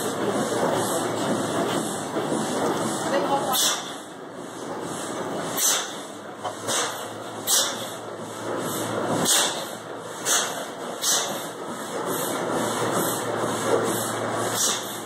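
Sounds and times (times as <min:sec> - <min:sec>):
gas engine clatter: 0:00.0 - 0:15.0.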